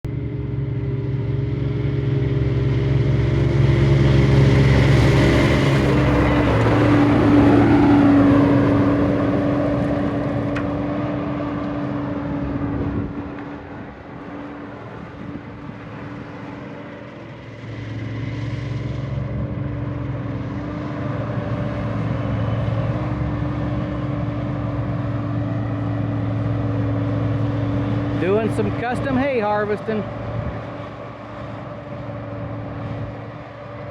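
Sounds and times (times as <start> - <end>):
harvesting machine engine humming: 0.1 - 33.9.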